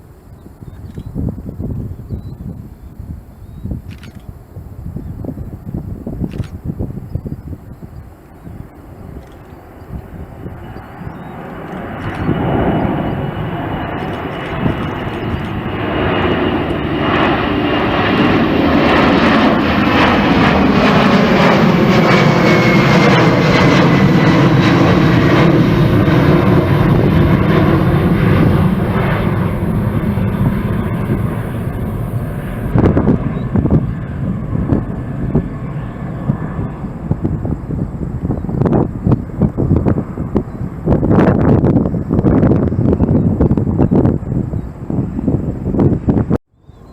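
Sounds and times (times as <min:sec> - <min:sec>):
jet engines roaring past: 0:00.0 - 0:46.9.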